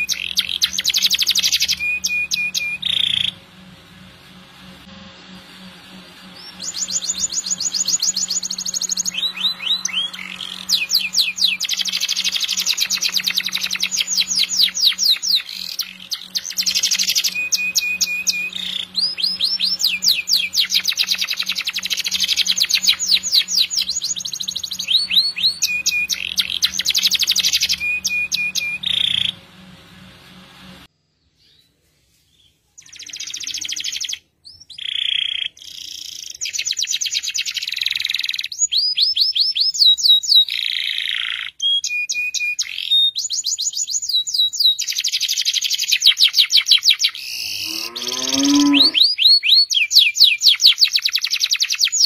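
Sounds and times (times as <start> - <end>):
canary singing trills: 0.0 - 3.7, 6.2 - 29.7, 32.8 - 52.0.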